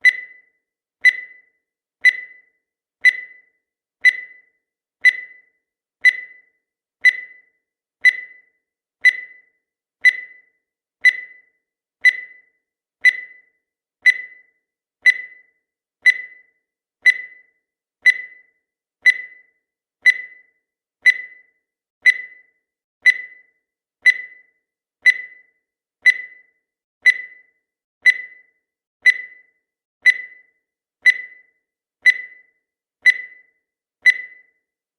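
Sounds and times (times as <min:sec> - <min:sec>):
timer ticking: 0:00.0 - 0:34.7.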